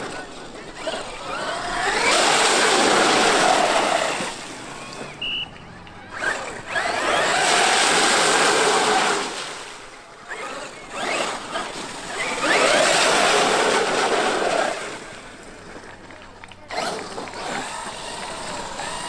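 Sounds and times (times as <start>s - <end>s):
electric motor whining: 0.0s - 15.6s, 16.5s - 19.0s
tyre and drivetrain noise: 0.0s - 19.0s.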